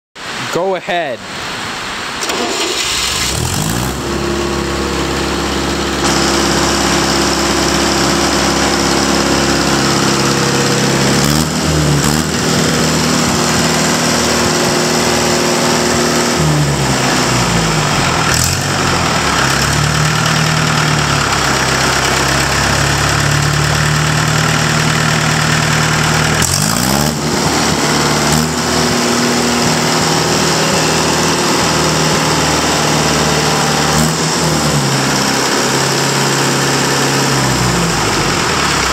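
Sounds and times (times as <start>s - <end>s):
diesel engine changing speed: 1.4s - 38.9s.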